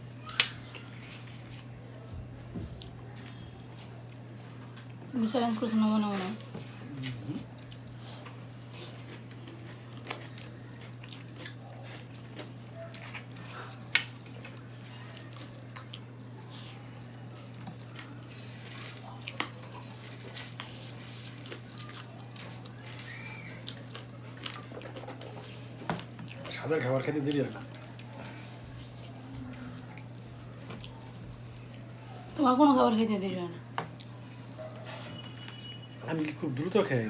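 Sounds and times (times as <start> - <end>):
wet mixing and chewing: 0.1 - 32.9, 33.5 - 37.0.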